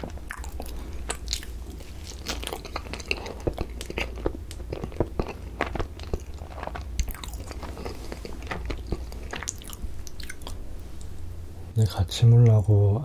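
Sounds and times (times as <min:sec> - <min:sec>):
close-miked chewing: 0:00.3 - 0:11.1.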